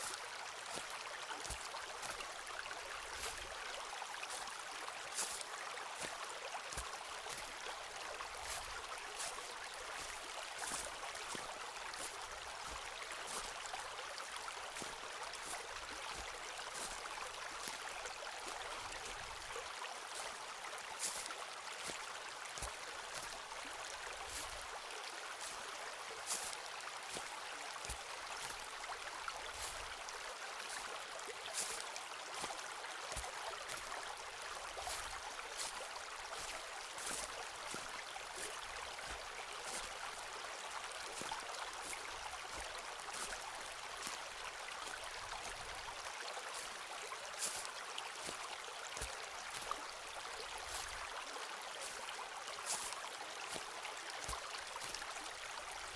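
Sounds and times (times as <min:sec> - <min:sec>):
footsteps on forest path: 0:00.0 - 0:55.9.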